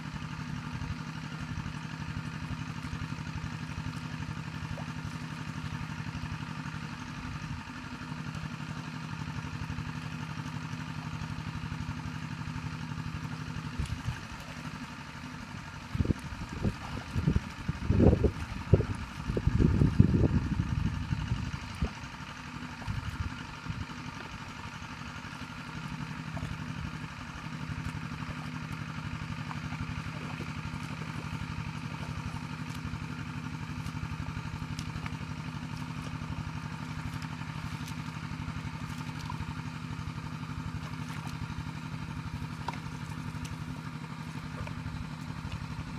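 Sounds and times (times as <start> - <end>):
feet wading through muddy water: 0.0 - 45.9
small engine idling: 0.0 - 45.9.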